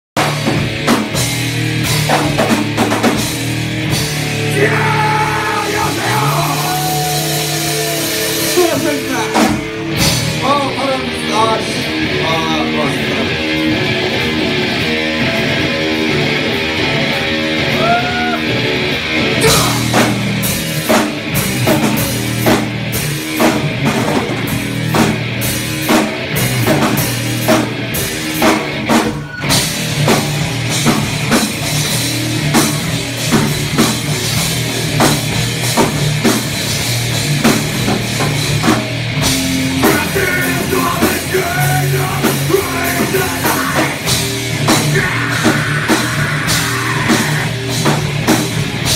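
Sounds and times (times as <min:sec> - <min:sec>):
drum kit hits: 0:00.2 - 0:10.7, 0:19.4 - 0:48.9
electric guitar: 0:00.2 - 0:48.9
rock band playing loudly: 0:00.2 - 0:48.9.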